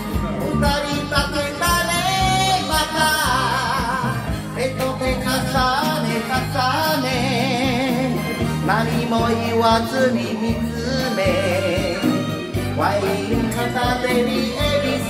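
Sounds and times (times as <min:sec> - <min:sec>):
karaoke backing track: 0:00.0 - 0:15.0
man singing into a microphone: 0:00.0 - 0:15.0.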